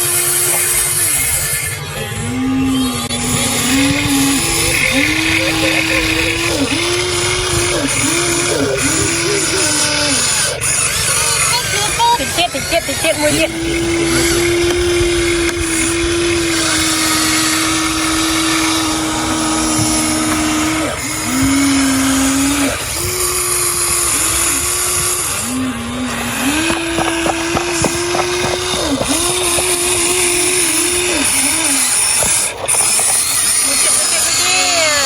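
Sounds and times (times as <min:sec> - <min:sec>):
electric motors whining: 0:00.0 - 0:35.0
whirring hiss: 0:00.0 - 0:35.0.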